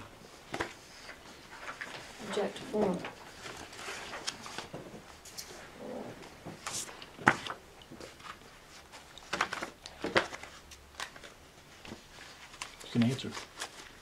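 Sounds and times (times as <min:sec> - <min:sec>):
papers being handled: 0:00.0 - 0:14.0.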